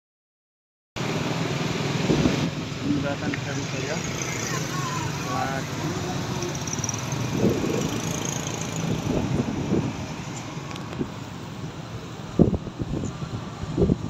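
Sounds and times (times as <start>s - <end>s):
low road hum: 1.0s - 14.0s
motorcycles passing: 1.0s - 14.0s.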